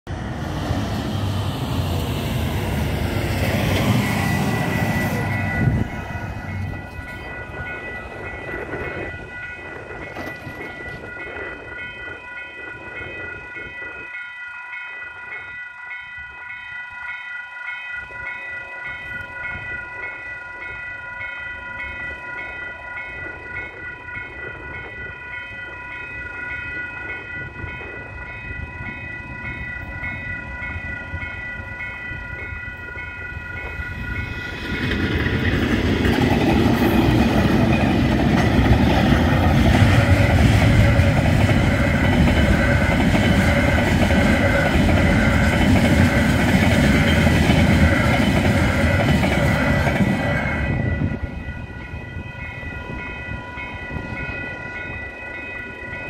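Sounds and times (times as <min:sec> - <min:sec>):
level crossing warning bells: 0:00.1 - 0:56.0.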